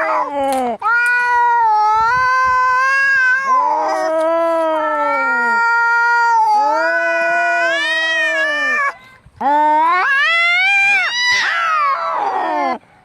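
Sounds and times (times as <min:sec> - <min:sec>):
cats yowling in a fight: 0:00.0 - 0:12.8.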